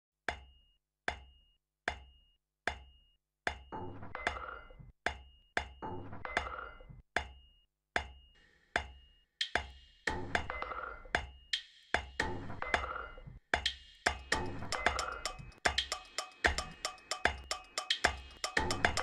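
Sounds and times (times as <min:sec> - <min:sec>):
sharp percussive knocks with ring: 0:00.3 - 0:12.9, 0:13.6 - 0:19.0.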